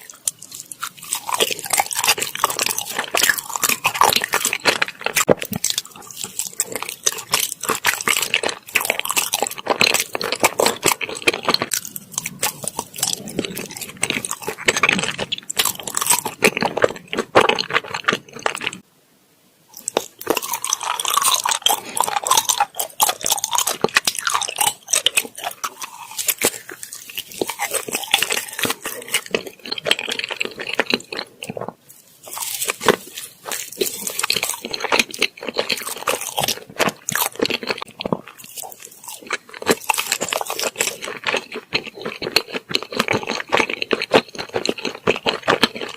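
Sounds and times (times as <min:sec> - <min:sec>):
chewing sticky rice cakes: 0:00.0 - 0:18.8, 0:19.7 - 0:45.9.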